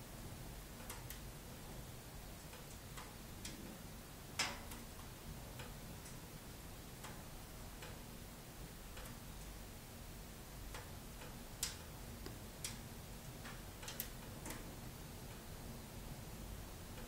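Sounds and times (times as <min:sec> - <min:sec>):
wood fire crackling: 0:00.6 - 0:17.0.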